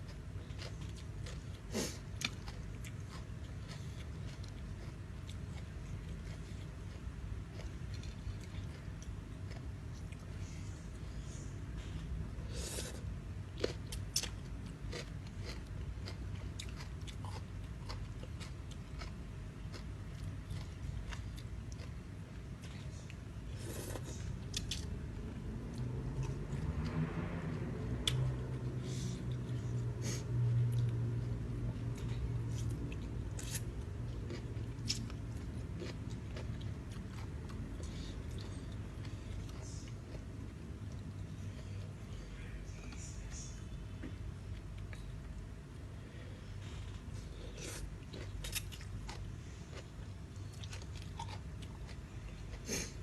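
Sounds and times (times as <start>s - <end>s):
person chewing crunchy food: 0.0s - 10.4s, 11.8s - 25.0s, 25.6s - 41.9s, 46.6s - 53.0s
low steady hum: 0.0s - 53.0s.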